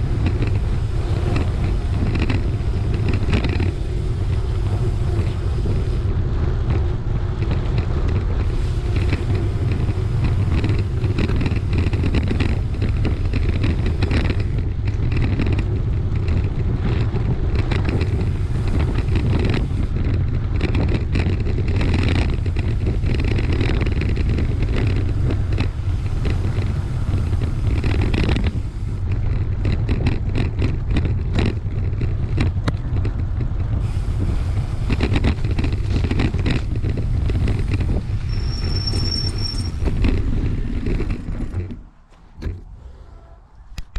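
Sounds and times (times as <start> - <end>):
crackling and scraping on dirt track: 0.0 - 43.9
wind buffeting microphone: 0.0 - 43.9.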